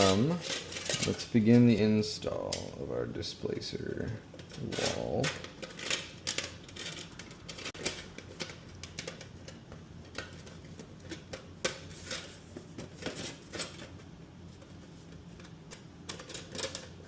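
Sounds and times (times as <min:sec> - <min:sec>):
aluminum flashing crinkling and scraping: 0:00.0 - 0:02.9, 0:03.8 - 0:17.0.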